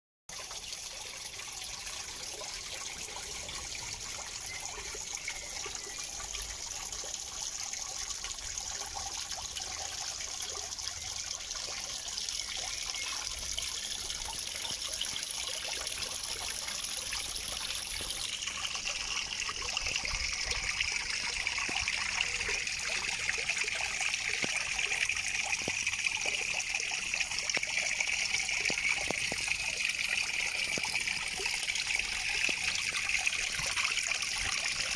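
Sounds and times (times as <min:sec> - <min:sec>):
small waterfall trickling into pond: 0:00.3 - 0:34.9.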